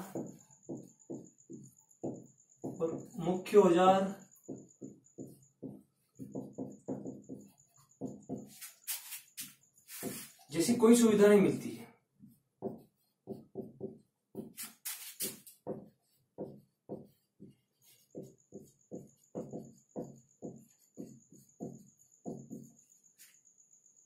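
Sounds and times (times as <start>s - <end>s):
marker pen scratching on whiteboard: 0.0s - 3.6s, 4.2s - 10.9s, 12.2s - 23.4s.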